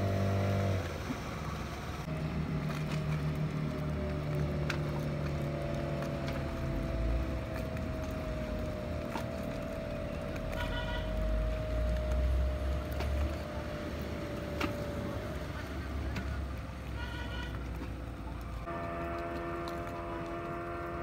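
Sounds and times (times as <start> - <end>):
speedboat engine whine: 0.0 - 17.8, 18.4 - 21.0.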